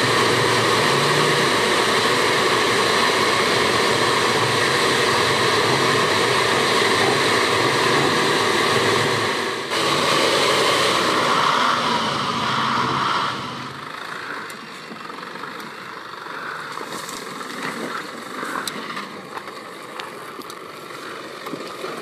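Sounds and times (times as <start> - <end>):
off-road vehicle engine under load: 0.0 - 22.0.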